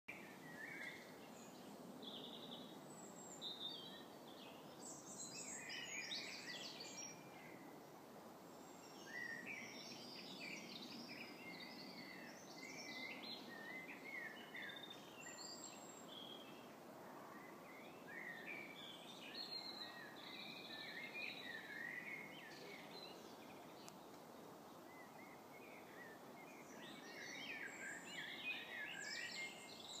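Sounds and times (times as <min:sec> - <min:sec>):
low background noise: 0:00.1 - 0:30.0
songbirds singing: 0:00.1 - 0:30.0.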